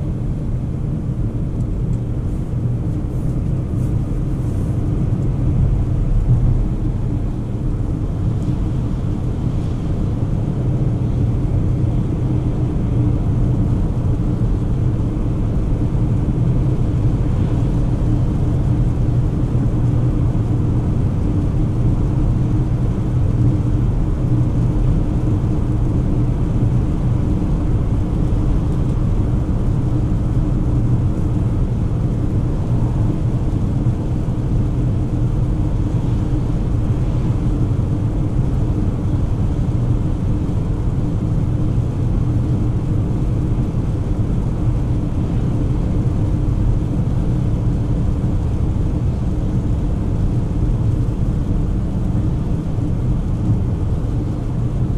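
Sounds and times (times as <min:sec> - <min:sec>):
car engine drone: 0:00.0 - 0:54.9
road noise: 0:00.0 - 0:54.9.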